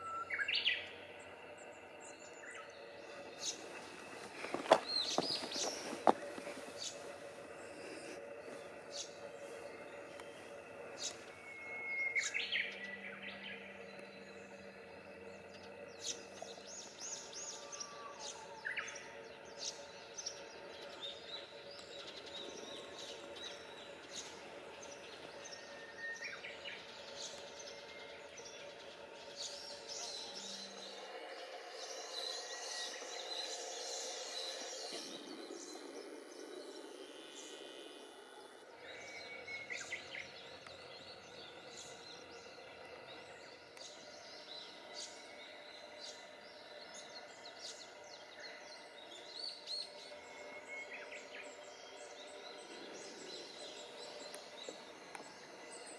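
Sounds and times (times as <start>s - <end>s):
birds chirping and calling: 0.0s - 55.9s
faint outdoor background noise: 0.0s - 55.9s.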